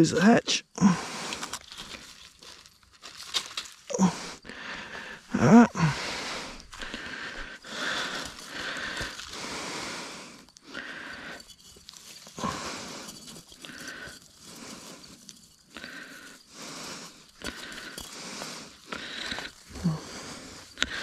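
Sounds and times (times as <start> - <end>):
rope rustling and scraping: 1.2 - 4.5, 6.2 - 21.0.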